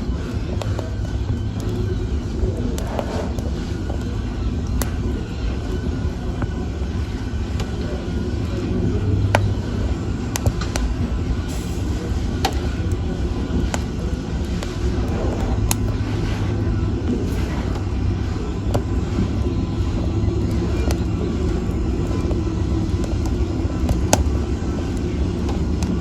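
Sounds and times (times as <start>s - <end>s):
fire crackling and popping: 0.0s - 26.0s
fire rumbling: 0.0s - 26.0s.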